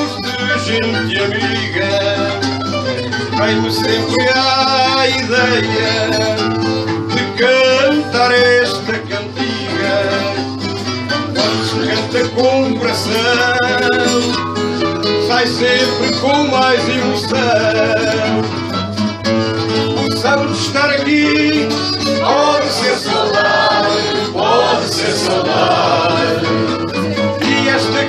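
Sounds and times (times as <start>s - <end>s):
person singing with vibrato: 0.0s - 10.7s, 11.3s - 14.4s, 15.2s - 18.5s, 19.8s - 28.0s
plucked guitar: 0.0s - 28.0s.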